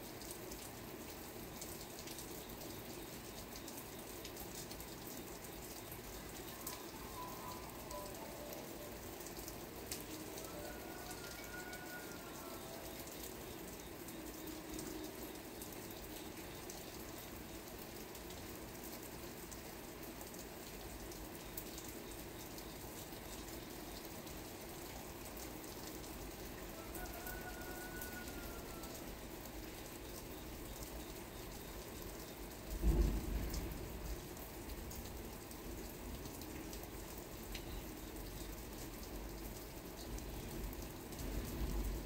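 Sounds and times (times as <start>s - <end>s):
raindrops ticking: 0.0s - 42.0s
steady rain: 0.0s - 42.0s.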